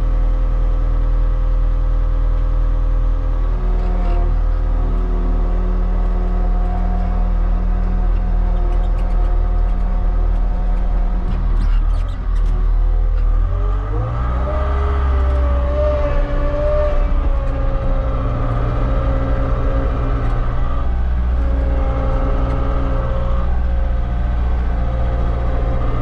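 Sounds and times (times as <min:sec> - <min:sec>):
diesel engine running hard: 0:00.0 - 0:26.0
machine whine: 0:03.5 - 0:26.0.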